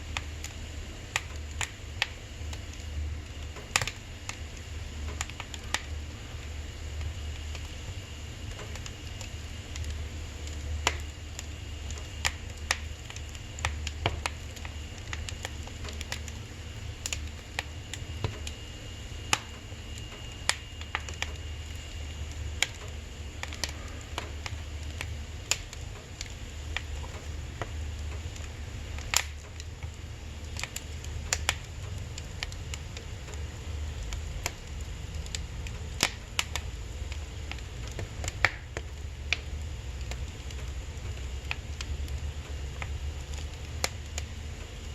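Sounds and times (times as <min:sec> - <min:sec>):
firewood crackling and popping: 0:00.0 - 0:44.9
steady low hum: 0:00.0 - 0:44.9.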